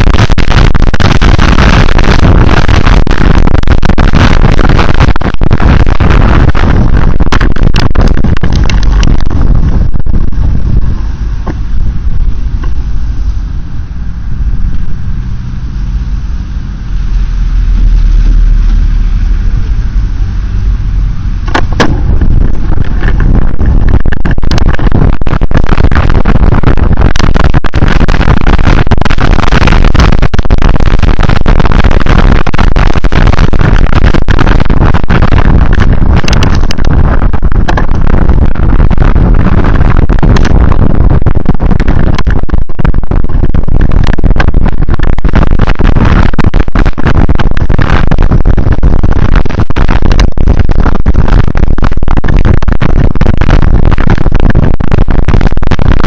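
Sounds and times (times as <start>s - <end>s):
crackle of rapid pops: 0.0s - 15.0s, 21.4s - 56.0s
low vehicle drone: 0.0s - 51.6s
wind buffeting microphone: 0.0s - 56.0s.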